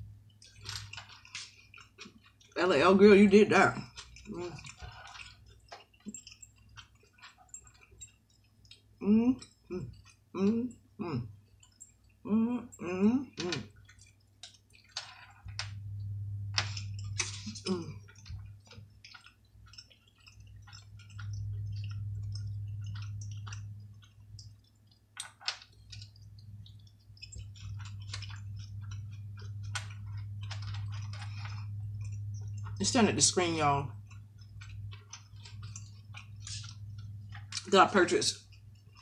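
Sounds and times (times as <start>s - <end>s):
person chewing food: 0.0s - 2.6s, 3.8s - 37.8s, 38.4s - 39.0s
low background hum: 0.0s - 39.0s.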